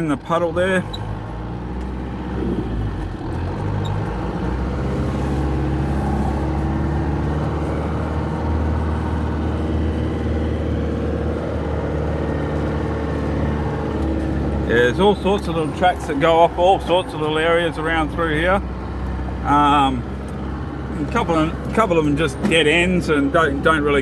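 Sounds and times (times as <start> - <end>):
tyre and road noise: 0.0 - 24.0
vehicle engine running: 0.0 - 24.0.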